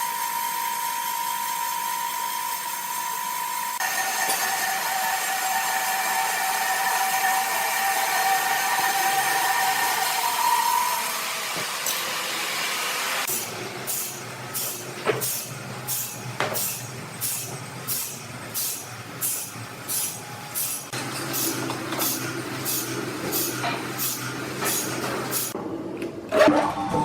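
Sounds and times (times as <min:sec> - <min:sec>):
sawmill machinery humming: 0:00.1 - 0:25.6.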